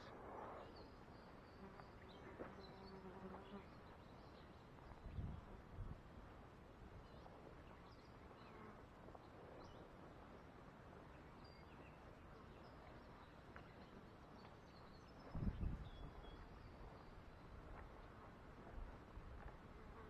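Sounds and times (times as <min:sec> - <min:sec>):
low steady hiss: 0:00.0 - 0:20.0.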